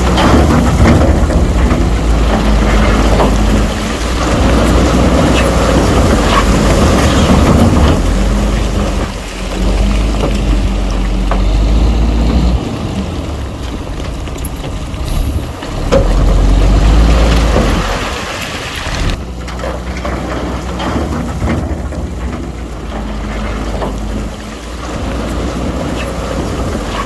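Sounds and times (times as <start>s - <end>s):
heavy diesel machinery rumbling: 0.0s - 27.0s
rock and soil clattering: 0.0s - 27.0s.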